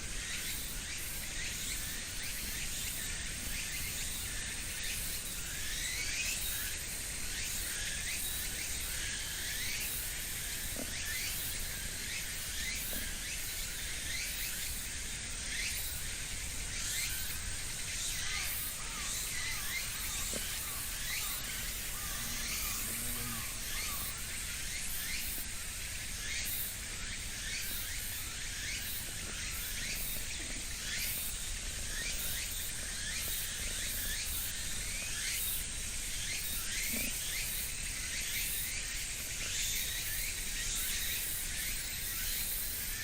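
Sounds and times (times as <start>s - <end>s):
steady high hiss: 0.0s - 43.0s.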